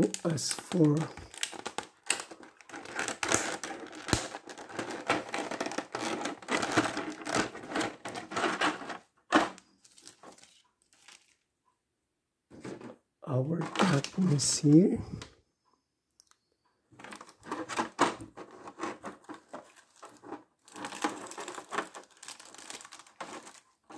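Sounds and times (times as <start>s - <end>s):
plastic trays crackling: 0.0s - 11.4s, 12.6s - 15.3s, 17.0s - 23.9s.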